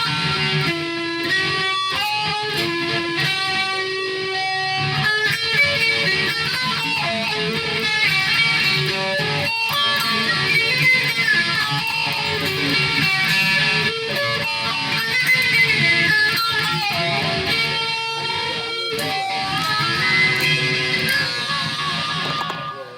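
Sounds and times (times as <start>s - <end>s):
guitar music: 0.0s - 22.9s.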